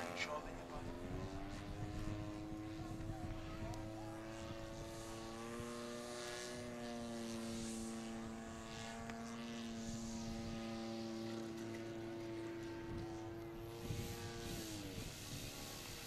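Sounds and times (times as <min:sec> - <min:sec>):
model airplane engine droning: 0:00.0 - 0:16.0.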